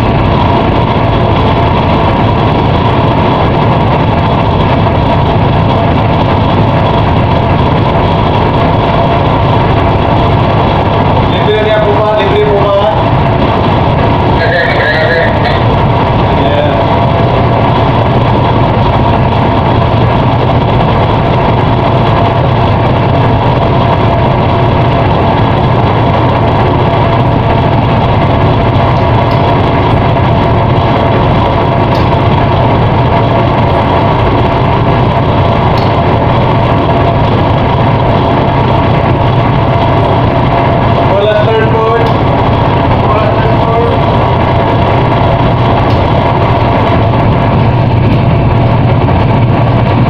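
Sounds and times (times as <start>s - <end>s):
faint whine: 0.0s - 50.0s
ship diesel engine drone: 0.0s - 50.0s.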